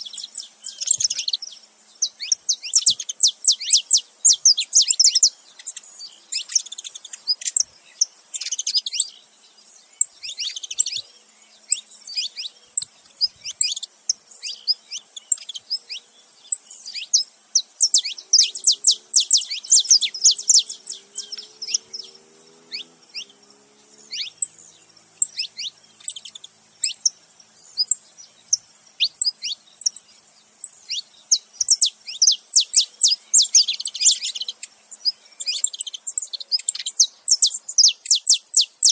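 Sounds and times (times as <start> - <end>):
finches chirping: 0.0 - 38.9.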